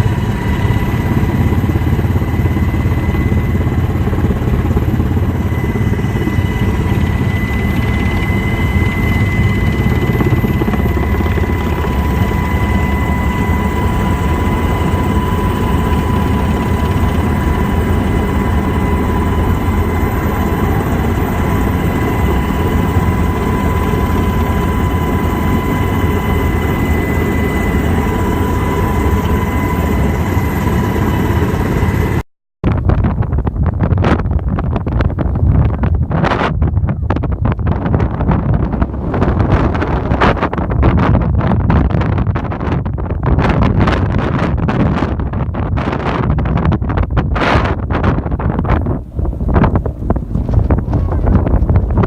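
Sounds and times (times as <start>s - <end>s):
helicopter rotor and engine rumble: 0.0s - 52.0s.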